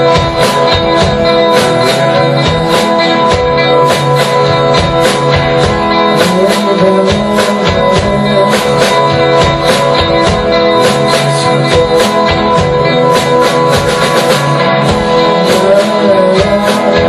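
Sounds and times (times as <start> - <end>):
live band with droning tones: 0.0 - 17.0
steady percussive beat: 0.0 - 17.0.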